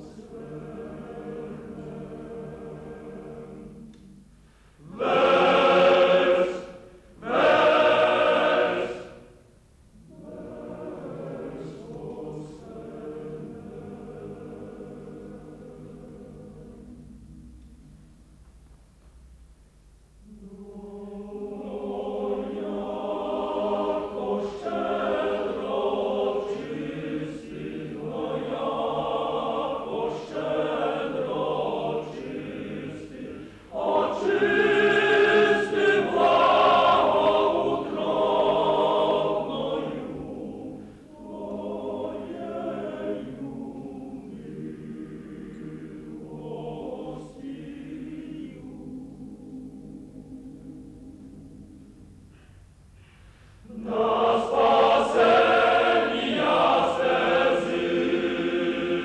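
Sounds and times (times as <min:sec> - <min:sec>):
choir singing: 0:00.0 - 0:04.2, 0:04.8 - 0:18.0, 0:20.2 - 0:52.2, 0:53.6 - 0:59.0.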